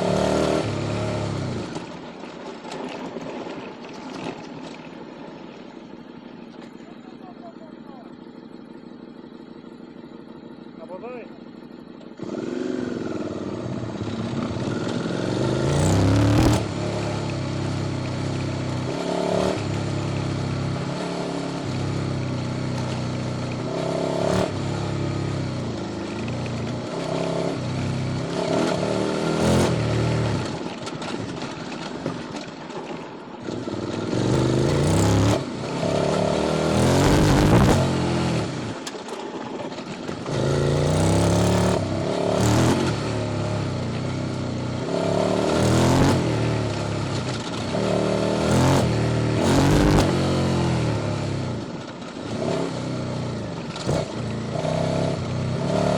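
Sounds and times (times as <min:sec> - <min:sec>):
exhaust cracks: 0:00.0 - 0:21.0, 0:21.6 - 0:55.7
motorcycle engine revving: 0:00.0 - 0:55.9.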